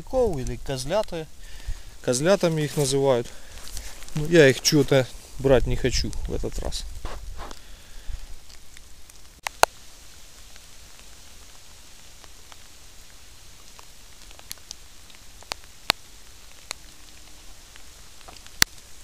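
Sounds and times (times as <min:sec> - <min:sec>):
light rain falling: 0:00.0 - 0:19.0
raindrops ticking close by: 0:00.0 - 0:19.0.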